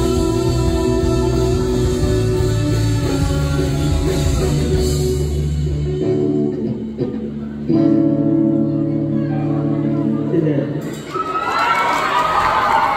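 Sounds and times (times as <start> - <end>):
rock band playing: 0.0 - 11.4.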